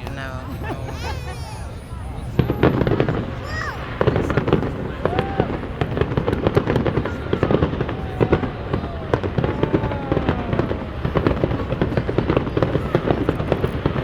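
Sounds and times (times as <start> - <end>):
fireworks crackling and banging: 0.0 - 14.0
firework whistles gliding down: 0.6 - 14.0.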